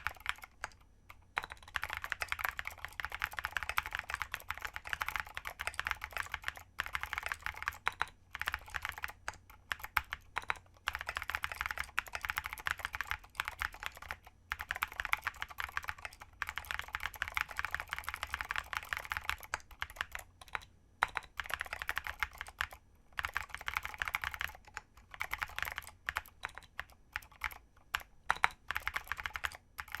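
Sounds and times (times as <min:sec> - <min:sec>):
fast typing on clicky keyboard: 0:00.0 - 0:30.0.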